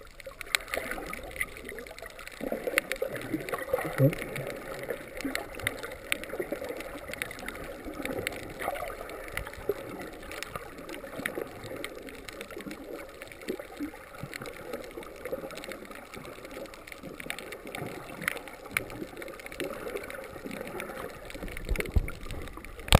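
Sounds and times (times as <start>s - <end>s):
underwater water gurgling: 0.0s - 22.9s.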